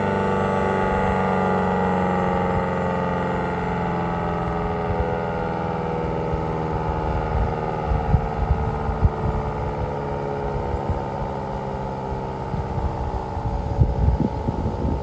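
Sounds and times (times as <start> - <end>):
outdoor warning siren wailing: 0.0 - 15.0.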